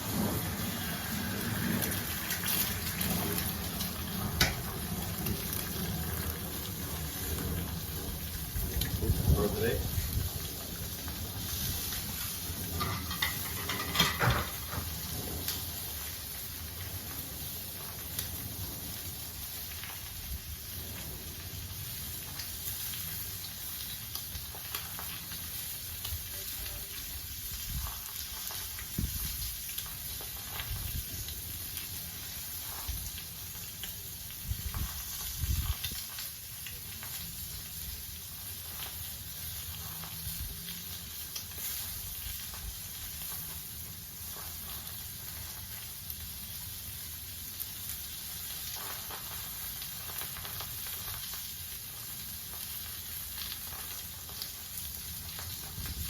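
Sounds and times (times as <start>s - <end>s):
food sizzling on a griddle: 0.0s - 56.0s.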